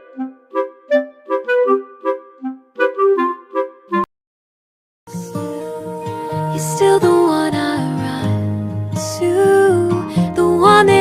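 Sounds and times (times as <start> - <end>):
instrumental background music: 0.0 - 4.1, 5.1 - 11.0.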